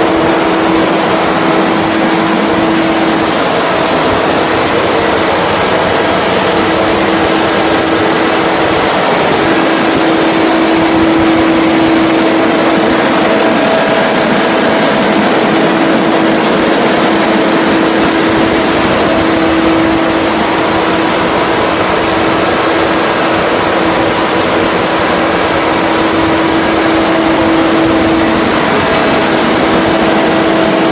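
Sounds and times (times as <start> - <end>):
constant humming tone: 0.0 - 30.9
diesel generator running: 0.0 - 30.9.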